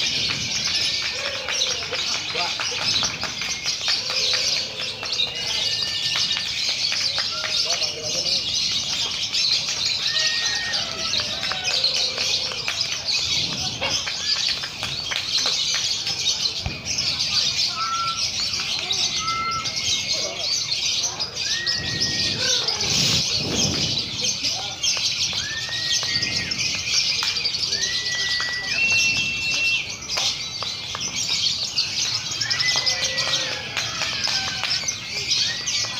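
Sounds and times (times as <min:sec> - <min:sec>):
lovebirds chattering: 0:00.0 - 0:35.9.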